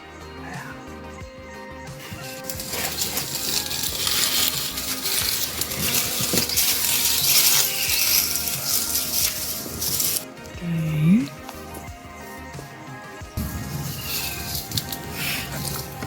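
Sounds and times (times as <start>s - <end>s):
soft background music: 0.0s - 16.0s
close crackling and rustling: 1.8s - 10.6s, 11.2s - 16.0s.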